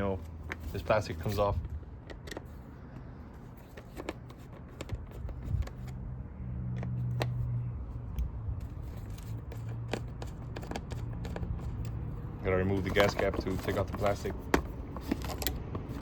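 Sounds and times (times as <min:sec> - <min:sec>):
screwdriver clicks and scrapes: 0:02.0 - 0:06.0, 0:06.7 - 0:16.0.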